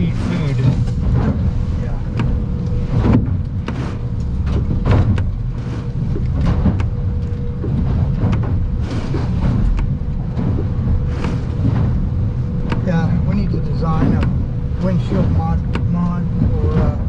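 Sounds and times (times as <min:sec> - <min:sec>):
hull slamming into swells: 0:00.0 - 0:15.7
boat engine and hull rumble: 0:00.0 - 0:17.0.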